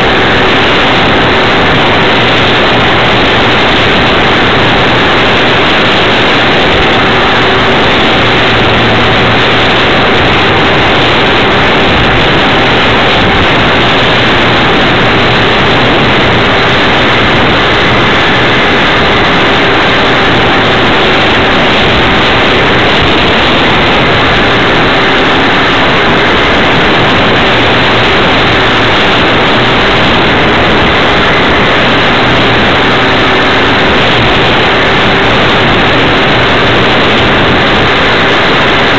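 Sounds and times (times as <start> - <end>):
model plane motor and wind roar: 0.0 - 38.9.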